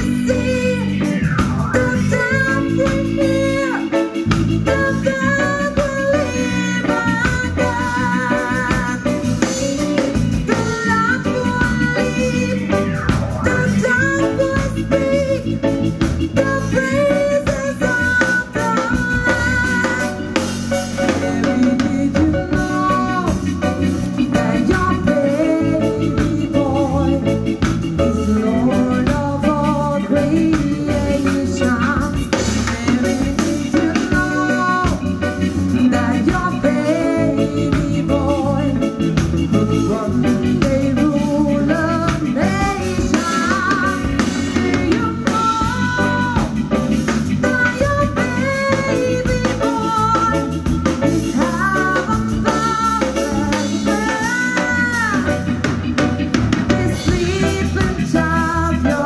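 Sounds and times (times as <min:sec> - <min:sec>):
drum kit: 0:00.0 - 0:59.0
electric guitar: 0:00.0 - 0:59.0
keyboards: 0:00.0 - 0:59.0
person singing: 0:00.0 - 0:59.0.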